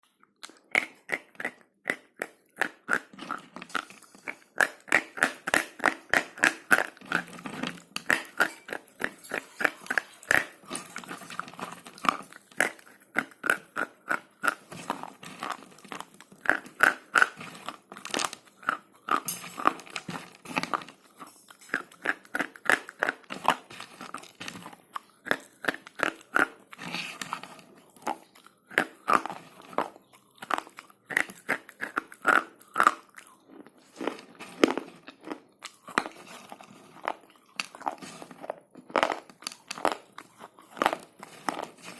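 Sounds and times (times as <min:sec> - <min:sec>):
crunching slate pencils: 0:00.5 - 0:41.9.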